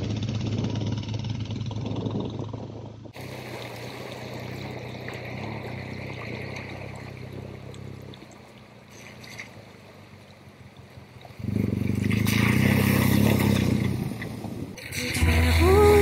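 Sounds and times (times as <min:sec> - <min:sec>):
motorcycle engine revving: 0:00.0 - 0:08.3, 0:11.3 - 0:16.0.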